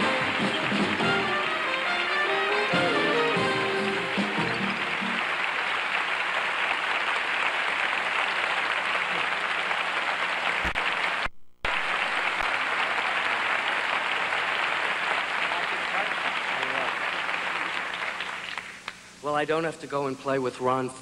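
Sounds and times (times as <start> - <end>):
audience applauding: 0.0 - 19.1.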